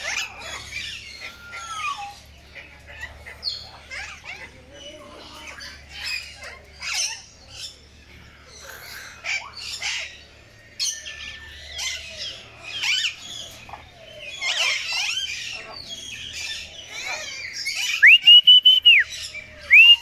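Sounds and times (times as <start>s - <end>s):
parrots squawking and chirping: 0.0s - 20.0s.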